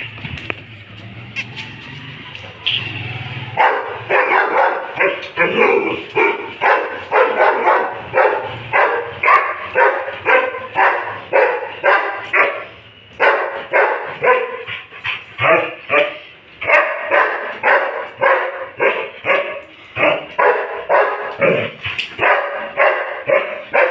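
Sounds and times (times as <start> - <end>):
dog barking: 3.5 - 14.7, 15.4 - 23.9.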